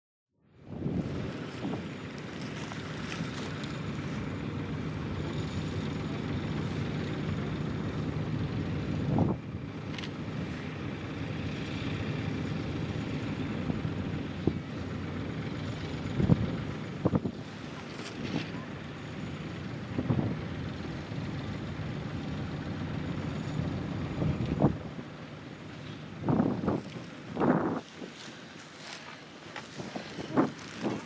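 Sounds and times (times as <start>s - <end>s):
tractor engine running under load: 0.4s - 31.0s.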